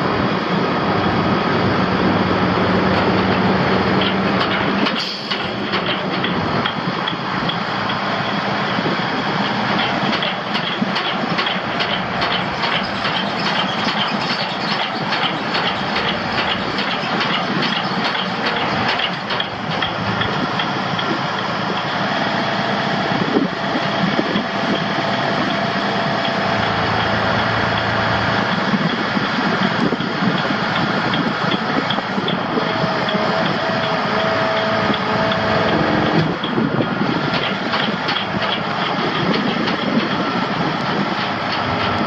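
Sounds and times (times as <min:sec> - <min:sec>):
diesel engine running: 0:00.0 - 0:42.0
rhythmic mechanical clatter: 0:00.0 - 0:42.0.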